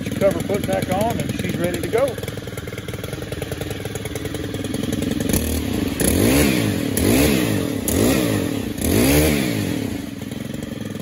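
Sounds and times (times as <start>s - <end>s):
engine idling and revving: 0.0s - 11.0s.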